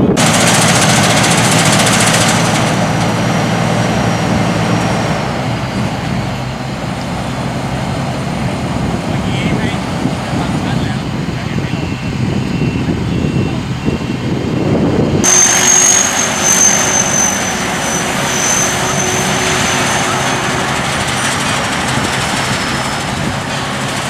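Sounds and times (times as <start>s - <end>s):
combine harvester running: 0.0s - 24.0s
steady high whine: 0.0s - 24.0s.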